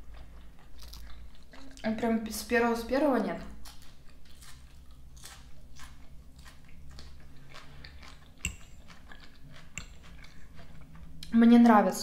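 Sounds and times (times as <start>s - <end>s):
crunching and chewing: 0.0s - 2.1s, 3.4s - 11.4s.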